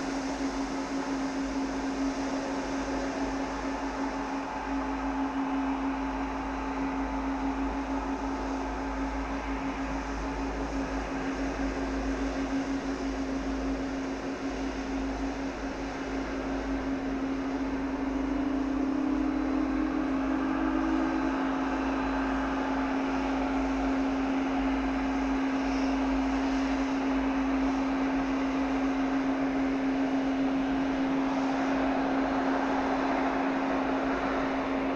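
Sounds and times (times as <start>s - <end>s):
jet engines idling: 0.0s - 34.9s.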